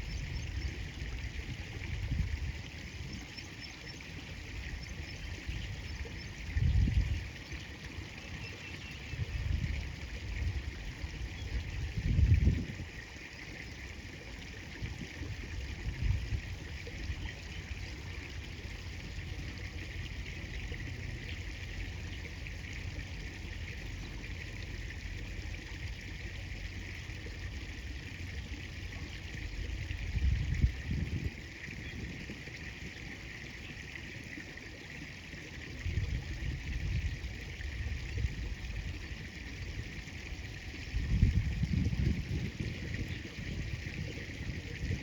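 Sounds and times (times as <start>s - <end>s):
river water trickling: 0.0s - 45.0s.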